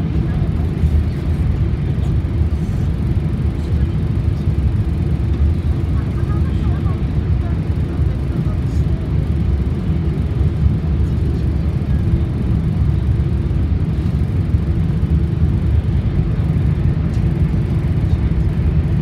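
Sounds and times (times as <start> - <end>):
train running at speed: 0.0 - 19.0.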